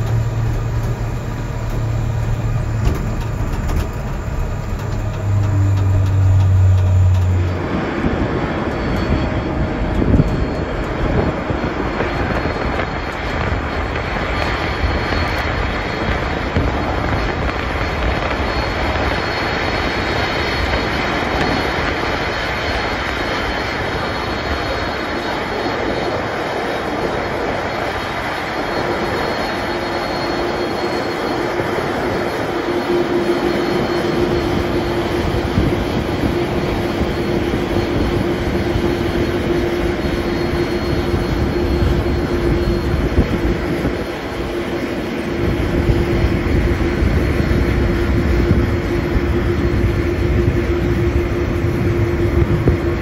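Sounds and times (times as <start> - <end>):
jet engines rushing with whine: 0.0 - 53.0
low hum: 0.0 - 53.0.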